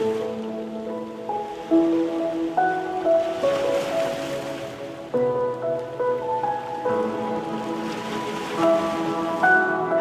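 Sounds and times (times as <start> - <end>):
background music sustained notes: 0.0 - 10.0.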